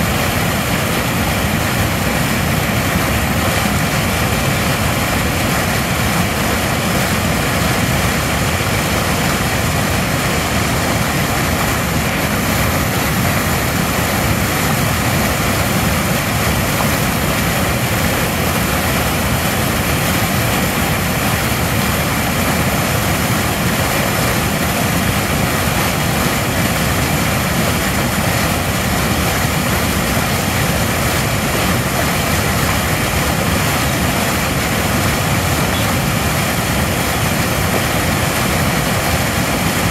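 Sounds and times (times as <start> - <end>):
water rushing over weir: 0.0 - 39.9.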